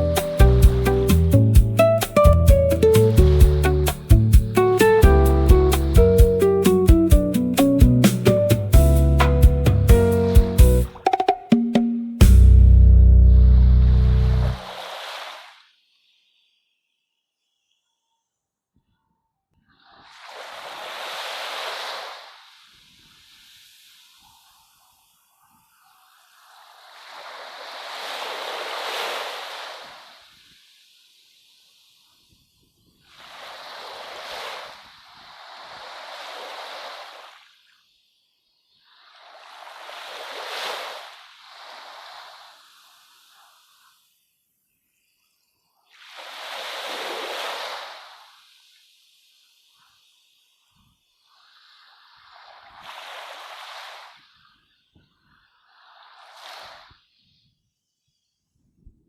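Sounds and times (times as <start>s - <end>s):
waves washing in: 0.0s - 12.4s, 13.6s - 16.2s, 19.9s - 44.2s, 45.9s - 54.7s, 55.3s - 57.2s.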